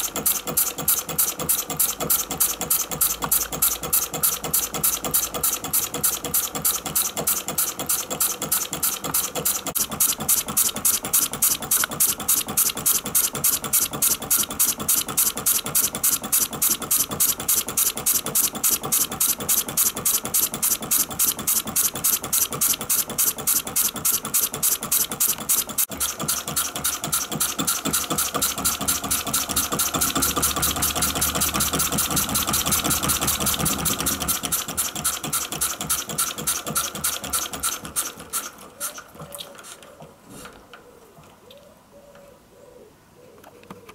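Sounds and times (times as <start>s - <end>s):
small diesel engine running: 0.0s - 39.1s.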